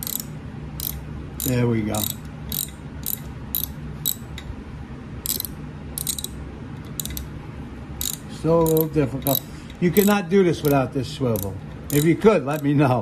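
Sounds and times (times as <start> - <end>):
socket ratchet clicking: 0.0 - 4.5, 5.2 - 7.3, 8.0 - 10.8, 11.4 - 12.7.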